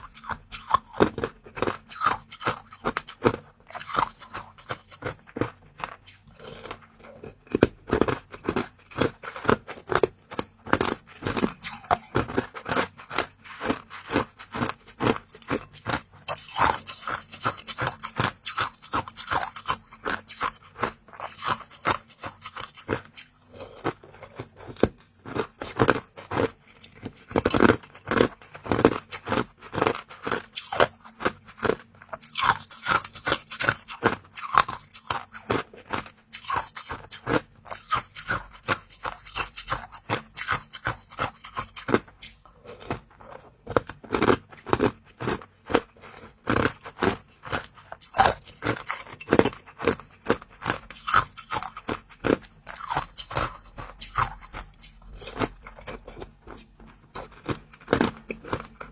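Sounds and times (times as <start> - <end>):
crunching and chewing food: 0.0 - 58.9.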